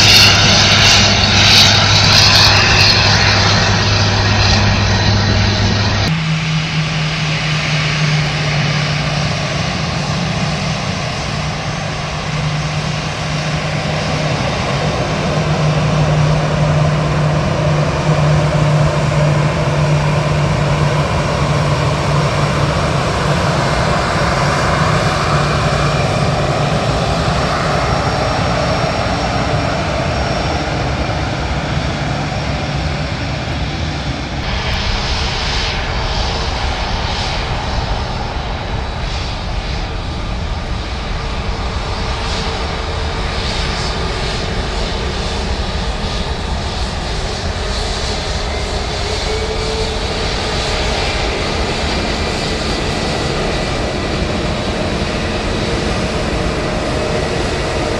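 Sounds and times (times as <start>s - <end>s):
airliner taxiing: 0.0s - 57.9s
jet engines at taxi power: 0.0s - 57.9s.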